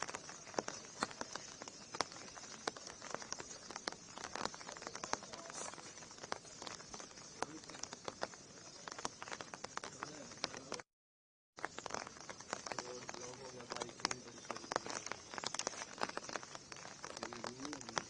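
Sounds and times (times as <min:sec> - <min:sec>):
heavy rain hissing: 0:00.0 - 0:10.8, 0:11.6 - 0:18.0
raindrops ticking close by: 0:00.0 - 0:10.9, 0:11.6 - 0:18.0.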